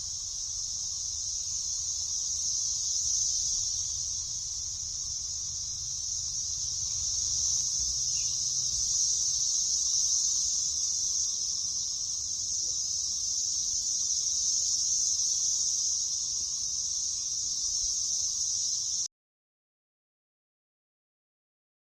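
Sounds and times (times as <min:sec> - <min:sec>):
cicadas buzzing: 0:00.0 - 0:19.1.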